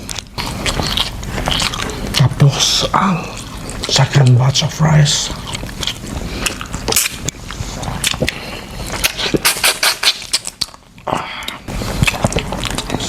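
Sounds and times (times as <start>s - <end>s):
eating clicks and smacks: 0.0s - 4.6s, 5.4s - 13.0s.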